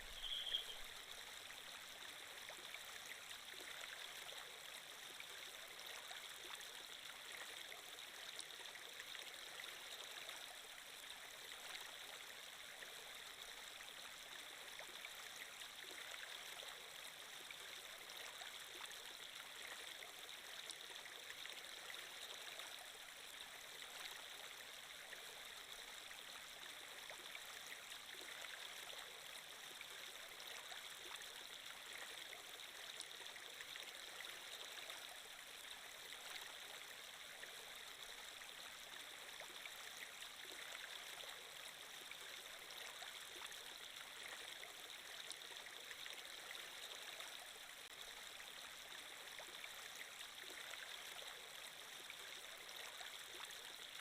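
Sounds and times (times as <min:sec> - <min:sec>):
babbling stream: 0:00.0 - 0:54.0.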